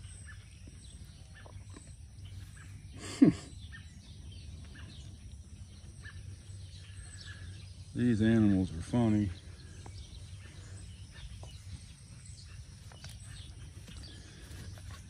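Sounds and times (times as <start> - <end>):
bird chirps: 0.0 - 15.0
low outdoor background hum: 0.0 - 15.0.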